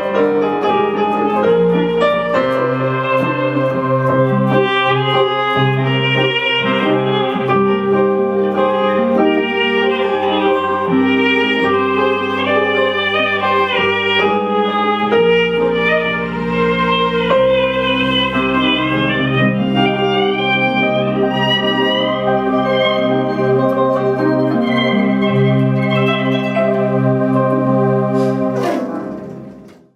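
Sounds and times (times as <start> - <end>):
electronic keyboard chords: 0.0 - 29.9
violin melody: 0.0 - 29.9.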